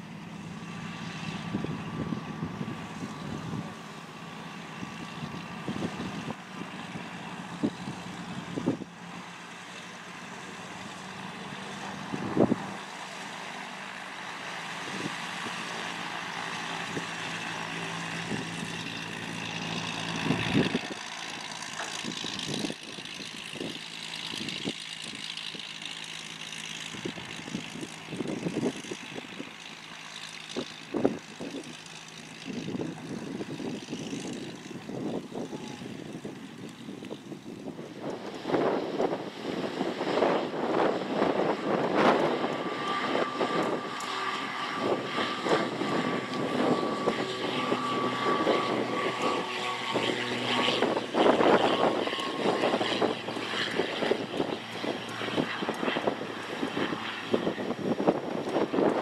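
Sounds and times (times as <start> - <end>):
aircraft engines and propellers humming: 0.0 - 59.0
faint propeller drone: 0.0 - 59.0
wind gusts on microphone: 0.8 - 3.8, 4.6 - 9.0, 11.7 - 25.6, 26.6 - 29.6, 30.5 - 31.8, 32.4 - 59.0.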